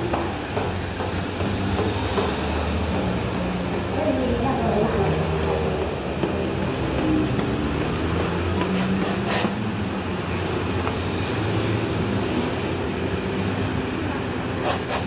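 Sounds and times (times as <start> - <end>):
busy background din: 0.0 - 15.0.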